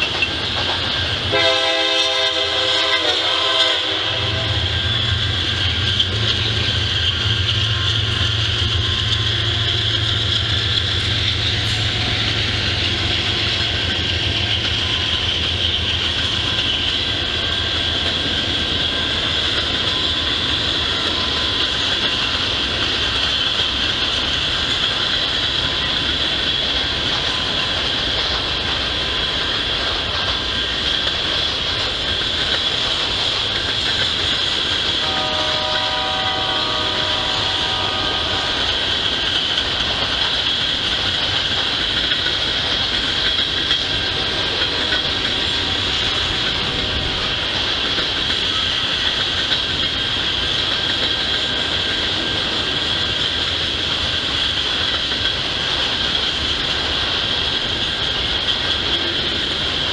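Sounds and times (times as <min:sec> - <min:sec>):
freight train cars rolling: 0:00.0 - 0:59.9.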